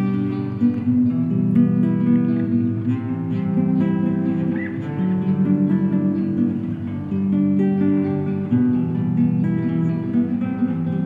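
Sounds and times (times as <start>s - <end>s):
acoustic guitar held notes: 0.0s - 11.0s.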